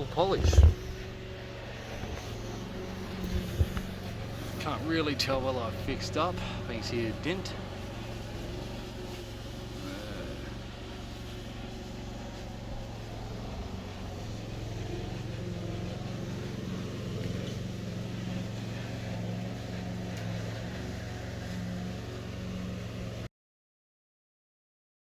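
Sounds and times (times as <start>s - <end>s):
low mechanical drone: 0.0s - 23.3s.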